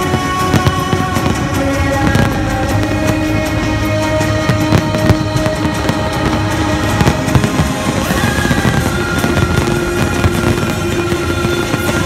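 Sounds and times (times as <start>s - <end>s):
fireworks crackling: 0.0s - 12.0s
steady music: 0.0s - 12.0s.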